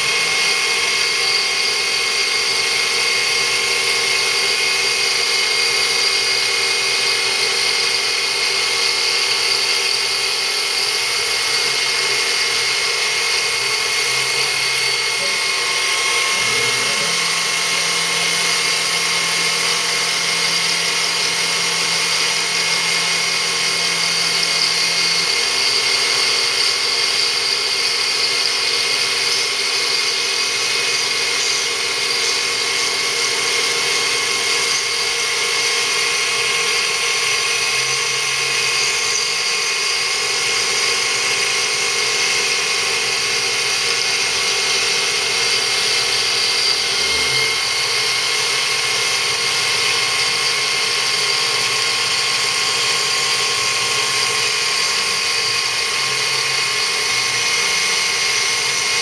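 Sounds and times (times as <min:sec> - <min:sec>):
milling machine spindle whining: 0:00.0 - 0:59.0.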